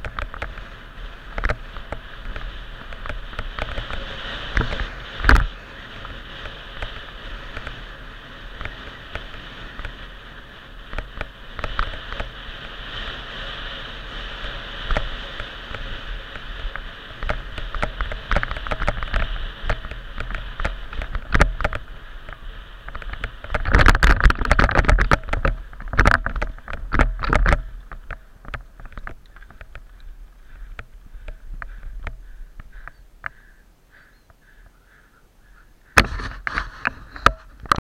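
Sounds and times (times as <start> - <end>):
air and tyre noise: 0.0 - 37.8
bike rattling over bumps: 0.0 - 37.8.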